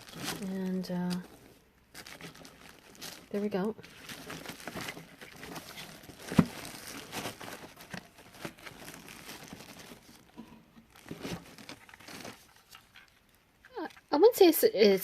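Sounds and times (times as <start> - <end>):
plastic packaging crinkling: 0.0 - 14.1.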